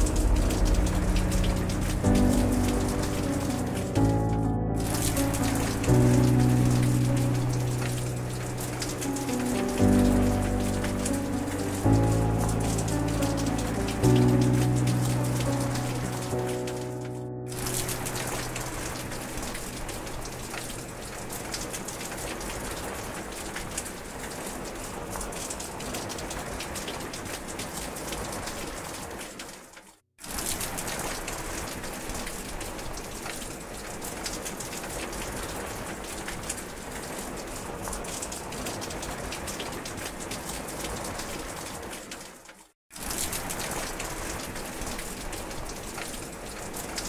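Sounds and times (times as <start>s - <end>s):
steady rain patter: 0.0s - 47.0s.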